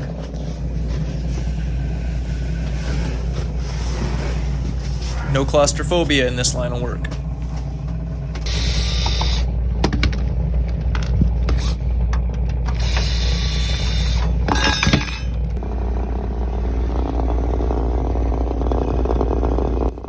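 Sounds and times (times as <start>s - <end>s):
knocks and scraping: 0.0s - 20.0s
refrigerator compressor humming: 0.0s - 20.0s.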